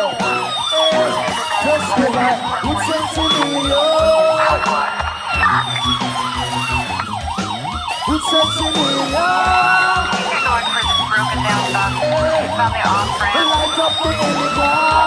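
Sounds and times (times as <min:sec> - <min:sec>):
electronic police siren yelping: 0:00.0 - 0:15.0
reggae music with steady beat: 0:00.0 - 0:15.0.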